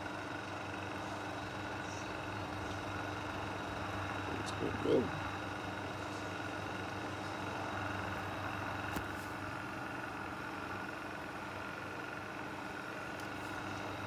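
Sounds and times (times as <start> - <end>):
exhaust fan whirring: 0.0 - 14.0
motor hum: 0.0 - 14.0.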